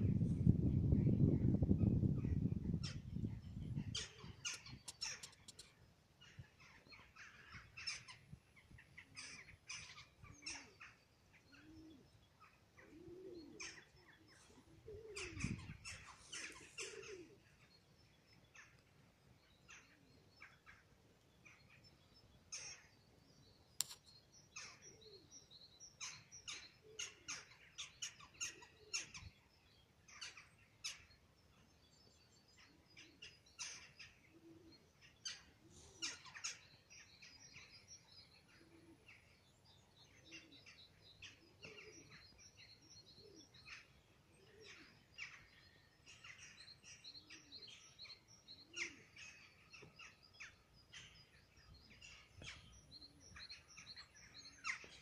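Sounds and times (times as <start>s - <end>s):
small birds chirping: 0.1s - 55.0s.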